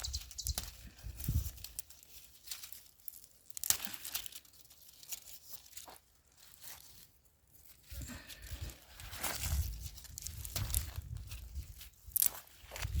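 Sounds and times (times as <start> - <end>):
dry plants rustling and crackling: 0.0 - 13.0.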